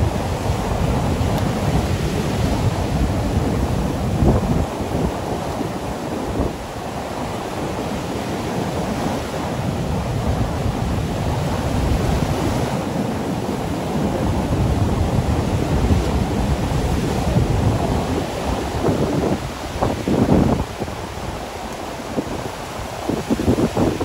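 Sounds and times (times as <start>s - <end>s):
waves breaking on beach: 0.0s - 24.0s
wind buffeting microphone: 0.0s - 24.0s.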